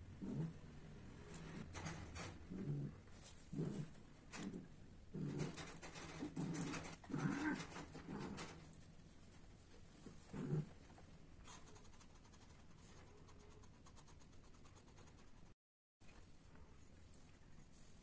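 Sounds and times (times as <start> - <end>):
faint room hiss: 0.0 - 18.0.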